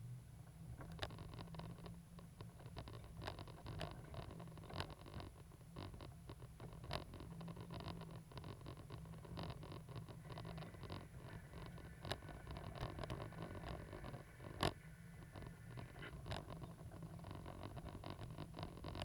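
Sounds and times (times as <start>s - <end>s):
scratching and clicking: 2.6s - 19.0s.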